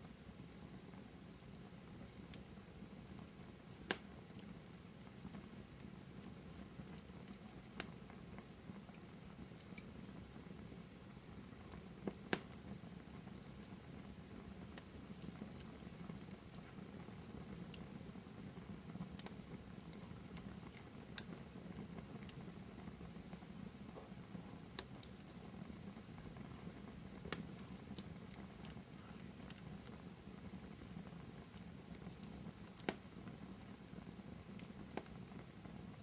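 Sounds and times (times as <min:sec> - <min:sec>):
wood fire crackling: 0:00.0 - 0:36.0
fire popping: 0:00.2 - 0:36.0.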